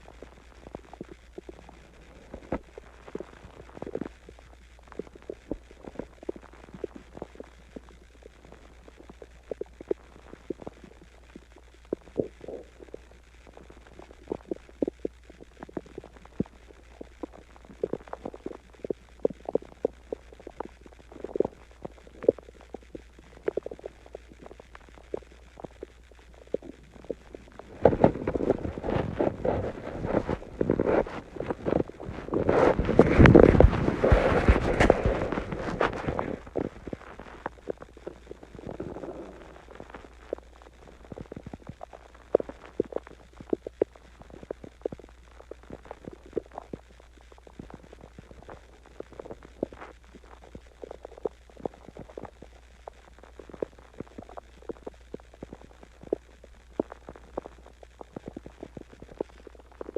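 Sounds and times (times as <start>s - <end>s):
stomach gurgling: 0.0s - 59.9s.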